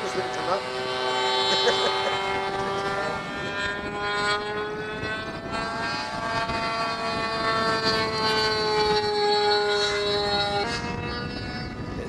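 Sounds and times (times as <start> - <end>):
model plane engine buzzing: 0.0 - 12.0.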